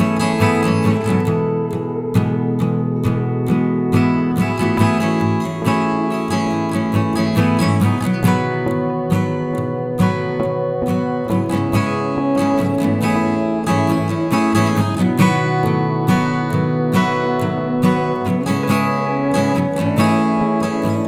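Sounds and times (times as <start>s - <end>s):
acoustic guitar strummed: 0.0s - 21.0s.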